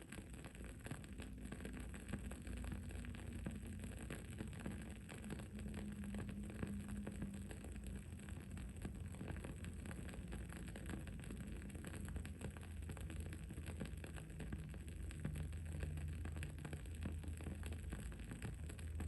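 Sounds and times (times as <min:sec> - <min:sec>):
low steady hum: 0:00.0 - 0:19.0
wood-wick candle crackling: 0:00.0 - 0:19.0.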